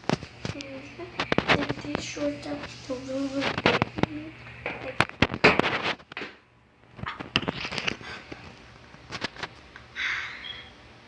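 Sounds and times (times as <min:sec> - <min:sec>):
rustling and clicking handling noises: 0:00.0 - 0:09.8.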